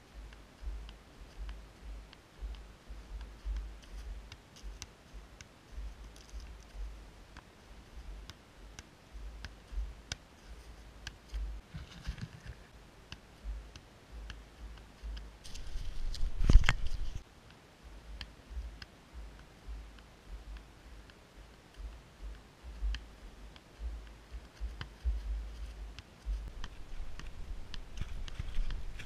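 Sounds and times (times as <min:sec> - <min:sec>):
ball tapping on foot: 0:00.2 - 0:11.6, 0:12.2 - 0:15.4, 0:18.1 - 0:29.0.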